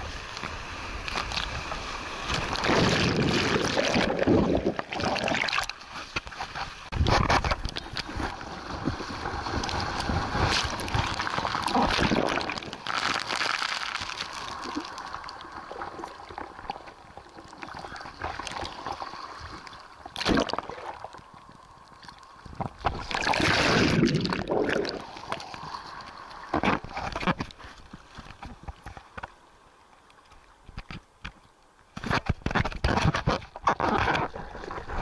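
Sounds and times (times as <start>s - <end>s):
ocean water sloshing and splashing: 0.0s - 29.3s, 31.9s - 35.0s.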